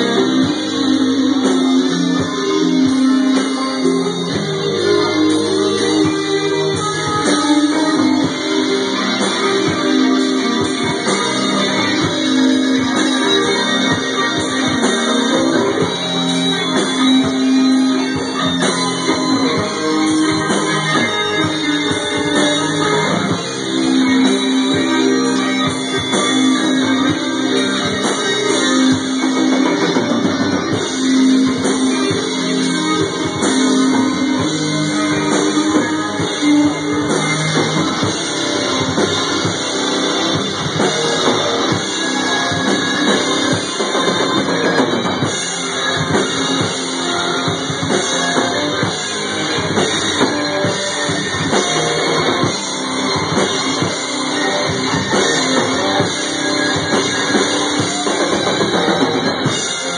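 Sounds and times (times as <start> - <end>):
electric guitars: 0.0 - 59.9.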